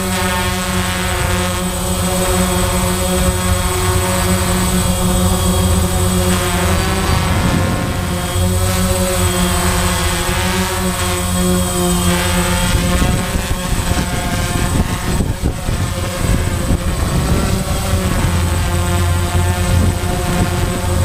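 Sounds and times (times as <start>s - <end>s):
drone motors buzzing: 0.0s - 21.0s.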